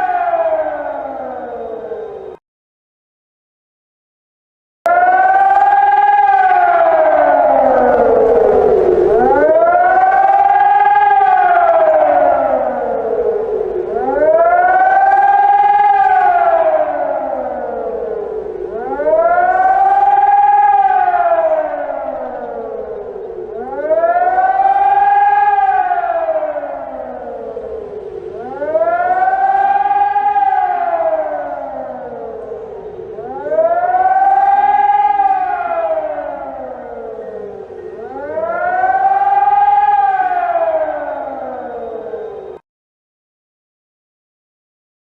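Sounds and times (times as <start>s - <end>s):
civil defense siren wailing: 0.0s - 2.4s, 4.9s - 42.6s.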